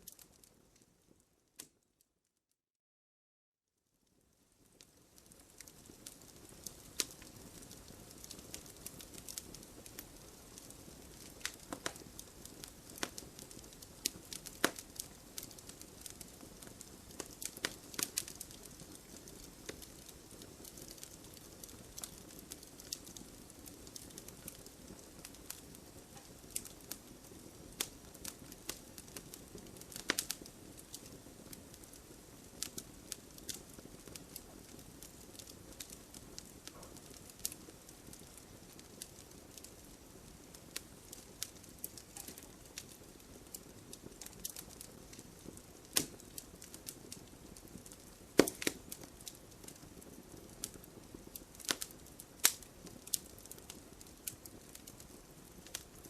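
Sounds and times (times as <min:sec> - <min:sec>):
wood fire crackling: 0:00.0 - 0:01.8, 0:04.1 - 0:56.0.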